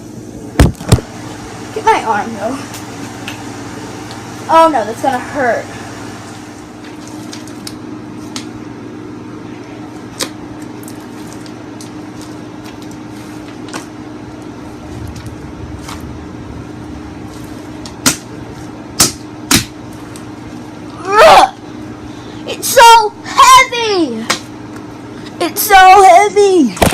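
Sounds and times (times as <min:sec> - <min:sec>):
low electrical hum: 0:00.0 - 0:26.9.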